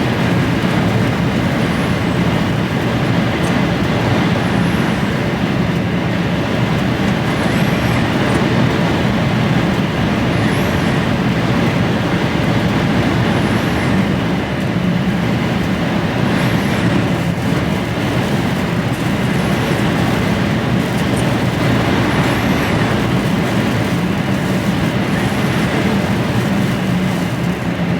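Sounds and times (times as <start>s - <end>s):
diesel engine under load: 0.0s - 27.9s
road noise: 0.0s - 27.9s
storm wind: 0.0s - 27.9s.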